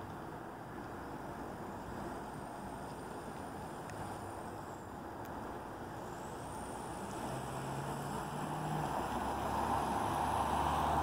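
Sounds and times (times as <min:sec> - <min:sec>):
diesel train rumbling: 0:00.0 - 0:11.0
low engine hum: 0:00.0 - 0:11.0.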